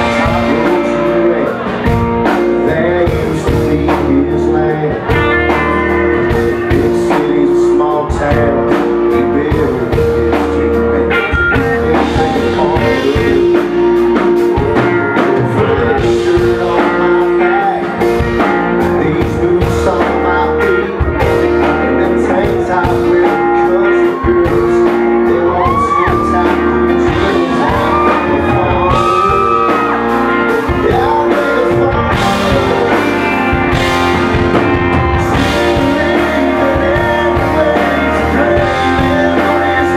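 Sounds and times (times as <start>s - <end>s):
bass guitar: 0.0s - 39.9s
electric guitar: 0.0s - 39.9s
person singing: 0.0s - 39.9s.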